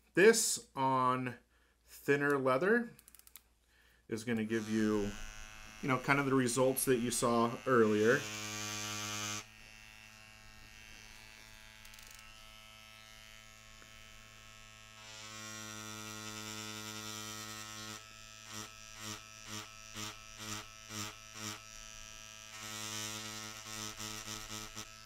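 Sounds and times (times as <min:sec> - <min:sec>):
tattoo machine buzzing: 0:04.4 - 0:25.0.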